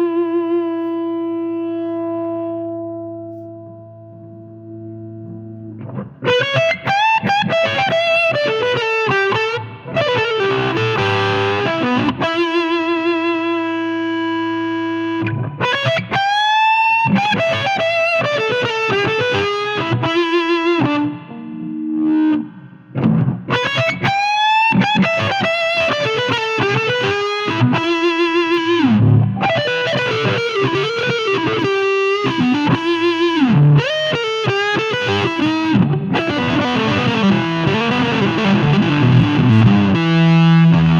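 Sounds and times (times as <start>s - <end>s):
distorted electric guitar lead: 0.0s - 40.9s.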